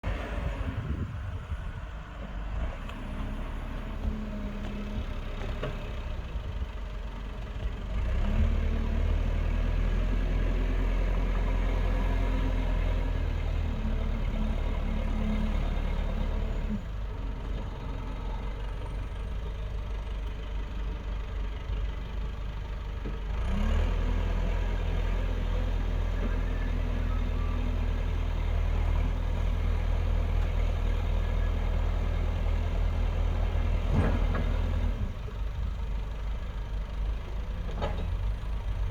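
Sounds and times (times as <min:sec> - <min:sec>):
heavy engine running under load: 0:00.0 - 0:38.9.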